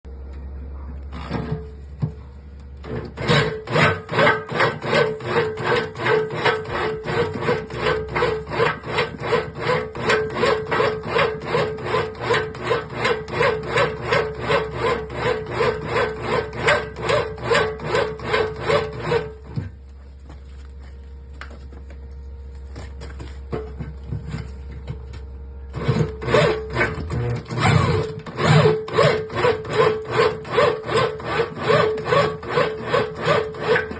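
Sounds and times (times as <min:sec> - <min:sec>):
drill press motor hum: 0:00.1 - 0:33.9
rhythmic scraping: 0:01.2 - 0:33.9.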